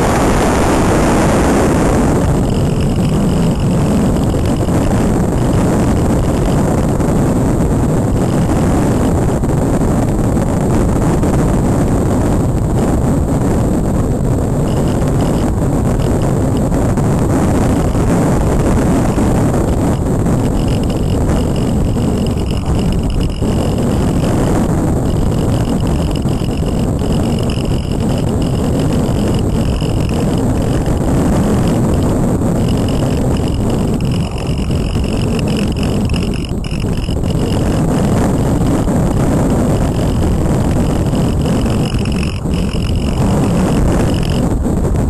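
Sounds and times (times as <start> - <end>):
faint high whine: 0.0 - 45.0
wind buffeting microphone: 0.0 - 45.0.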